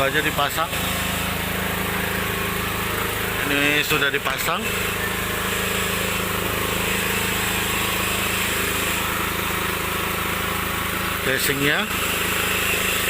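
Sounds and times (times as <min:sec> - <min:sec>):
machine engine humming: 0:00.0 - 0:13.0.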